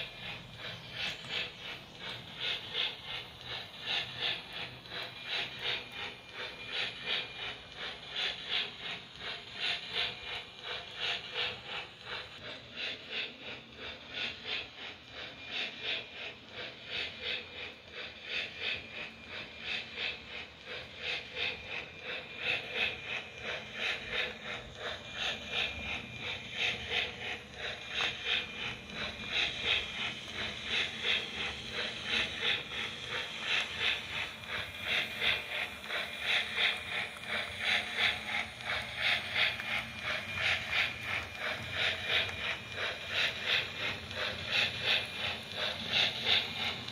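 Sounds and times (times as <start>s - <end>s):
model train whirring rhythmically: 0.0s - 46.9s.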